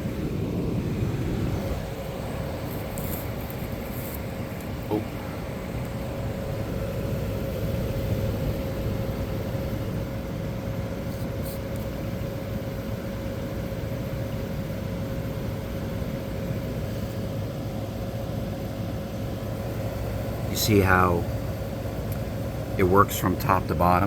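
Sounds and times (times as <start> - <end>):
air conditioner running: 0.0 - 24.0.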